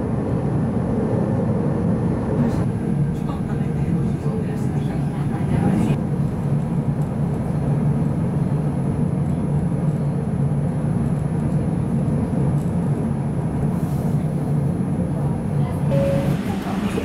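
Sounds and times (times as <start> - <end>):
tram wheels rumbling on rails: 0.0 - 17.0.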